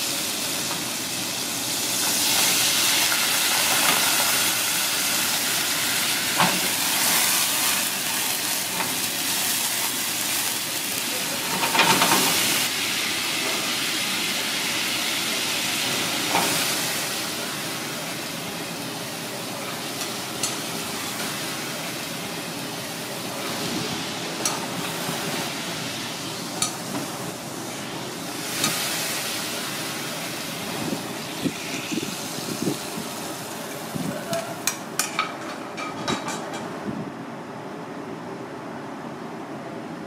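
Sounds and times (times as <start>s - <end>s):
sauce sizzling in frying pan: 0.0s - 34.0s.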